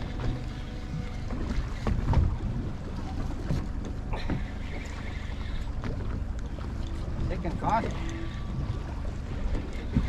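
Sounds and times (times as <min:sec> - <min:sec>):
small boat engine rumble: 0:00.0 - 0:10.0.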